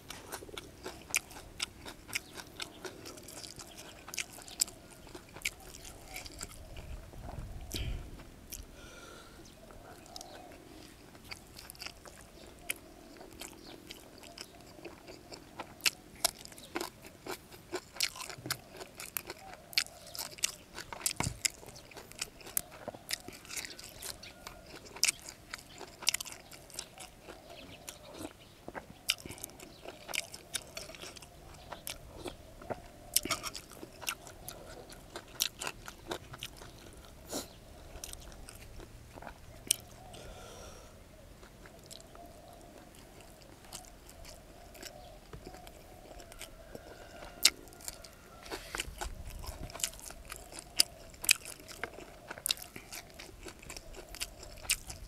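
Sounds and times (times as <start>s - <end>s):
person chewing with crunches: 0.0s - 55.0s.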